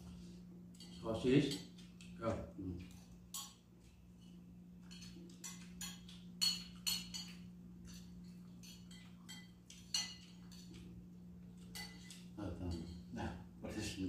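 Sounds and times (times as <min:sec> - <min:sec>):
steady low hum: 0:00.0 - 0:14.0
spoons clinking against bowls: 0:00.7 - 0:13.2.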